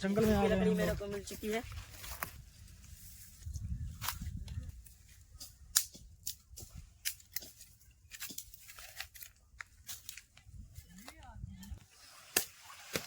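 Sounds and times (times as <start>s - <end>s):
twigs and leaves crackling: 0.8s - 13.0s.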